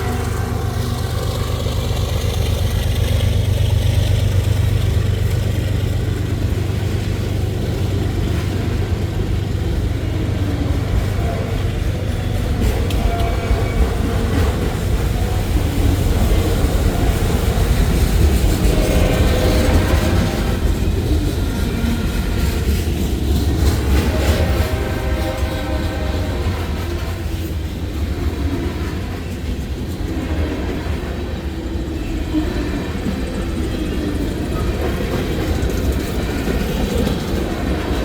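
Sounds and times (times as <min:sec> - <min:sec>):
freight cars rumbling and clattering: 0:00.0 - 0:38.0
locomotive engines humming: 0:00.0 - 0:38.0
train wheel squeals: 0:00.0 - 0:38.0.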